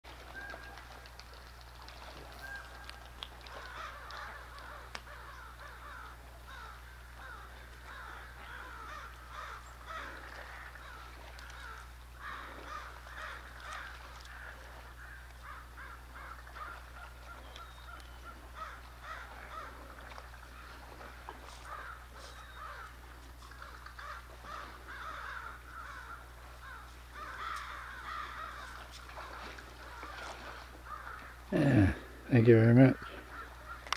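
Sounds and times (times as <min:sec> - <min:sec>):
steady low hum: 0:00.1 - 0:33.9
birds cawing harshly: 0:02.4 - 0:33.9.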